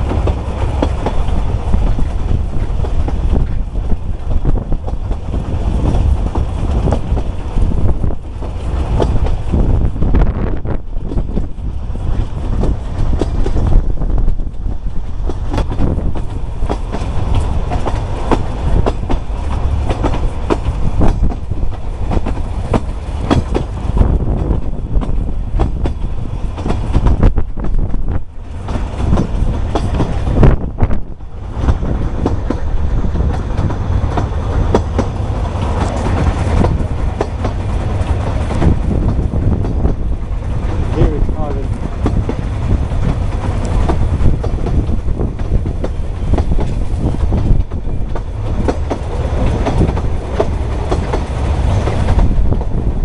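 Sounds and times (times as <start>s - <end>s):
train wheels rumbling: 0.0s - 53.0s
wheels clattering over rail joints: 0.0s - 53.0s.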